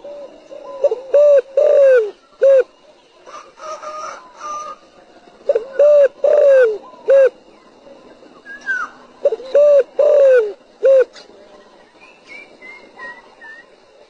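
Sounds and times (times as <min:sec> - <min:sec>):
dove cooing: 0:00.0 - 0:07.5, 0:08.4 - 0:13.9.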